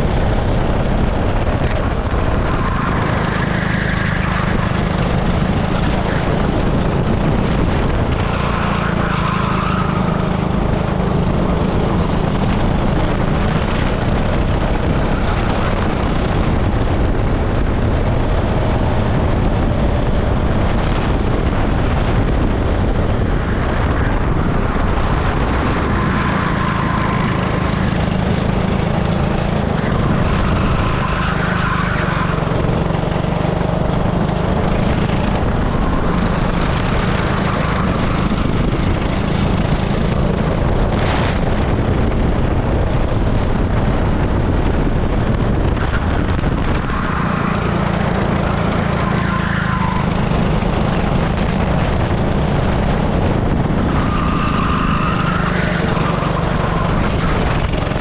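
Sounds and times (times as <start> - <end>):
kart engine racing: 0.0 - 58.0.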